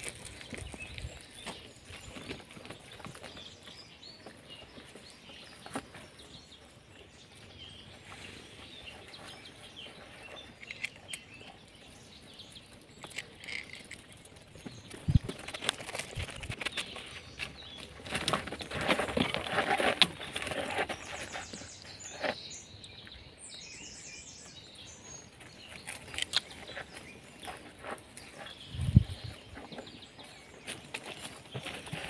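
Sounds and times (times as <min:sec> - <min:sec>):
dry leaves and gravel crackling: 0:00.0 - 0:32.0
small birds chirping: 0:00.0 - 0:32.0.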